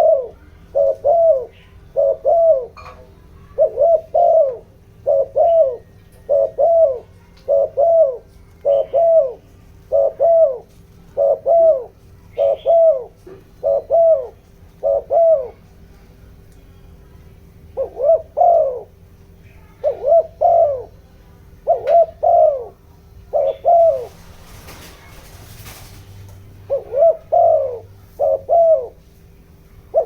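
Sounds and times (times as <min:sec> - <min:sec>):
dove cooing: 0:00.0 - 0:16.0, 0:17.6 - 0:30.0.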